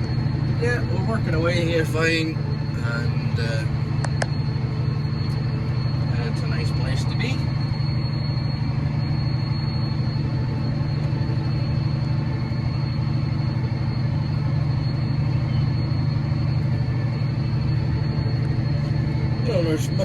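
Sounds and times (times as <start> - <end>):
steady high whine: 0.0 - 20.0
tractor diesel engine drone: 0.0 - 20.0.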